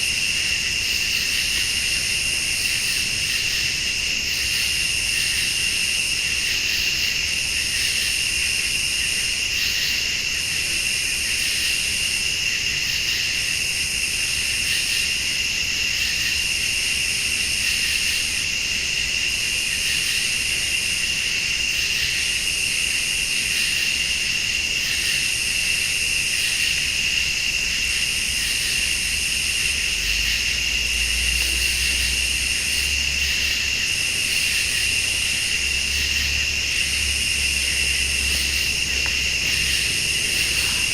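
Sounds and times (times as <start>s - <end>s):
crickets trilling: 0.0s - 40.9s
pulsing high insect call: 0.0s - 40.9s.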